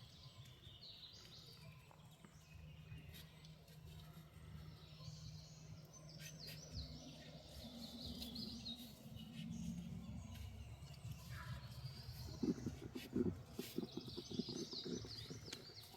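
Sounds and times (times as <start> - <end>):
songbird chirping: 0.0 - 15.9.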